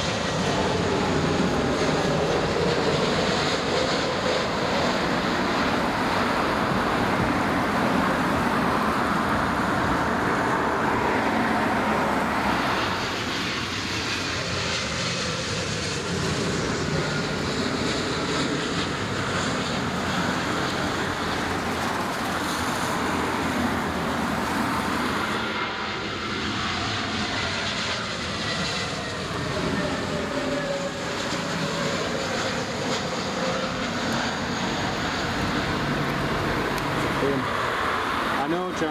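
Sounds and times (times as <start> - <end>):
jet airliner engine rush: 0.0 - 38.9.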